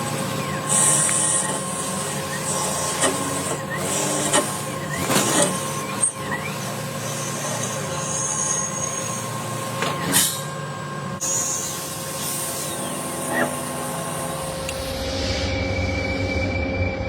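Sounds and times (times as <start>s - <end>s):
machine cutting wood: 0.0s - 10.4s, 11.2s - 15.0s.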